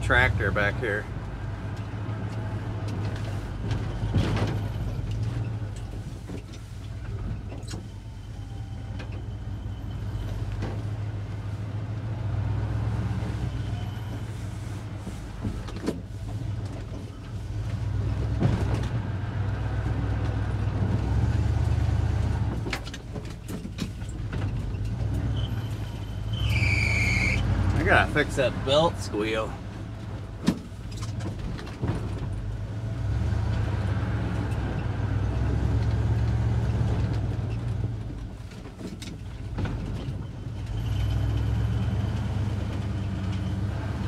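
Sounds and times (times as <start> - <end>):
truck engine rumbling: 0.0 - 44.0.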